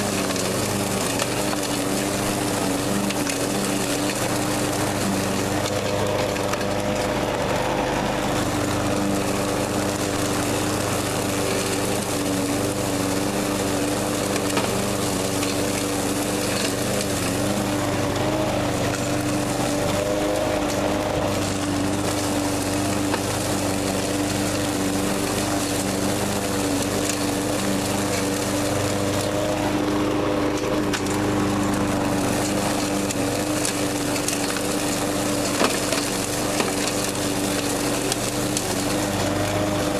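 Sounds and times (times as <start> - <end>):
dry leaves being shredded: 0.0 - 39.9
lawn mower engine running: 0.0 - 39.9.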